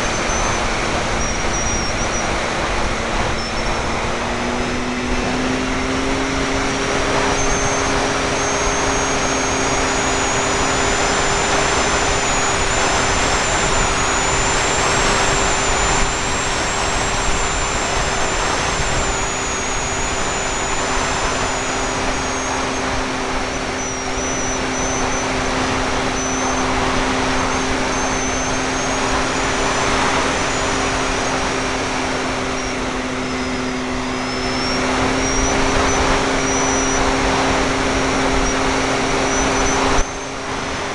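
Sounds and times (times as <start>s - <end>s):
faint high wavering whine: 0.0s - 40.9s
model plane motor and propeller: 0.0s - 40.9s
wind rushing over microphone: 0.0s - 40.9s.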